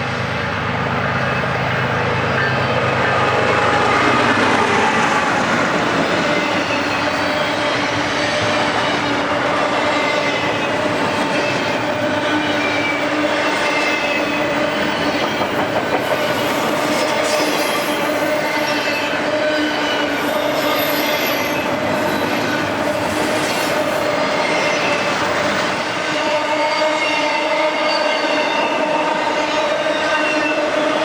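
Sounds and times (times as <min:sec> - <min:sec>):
train rumble: 0:00.0 - 0:31.0
train wheels squealing on rails: 0:00.0 - 0:31.0.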